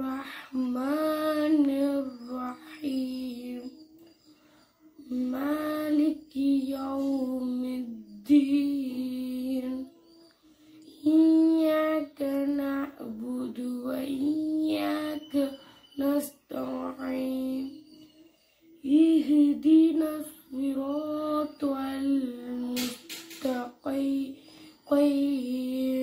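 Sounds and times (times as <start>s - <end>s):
woman reciting melodically: 0.0s - 26.0s.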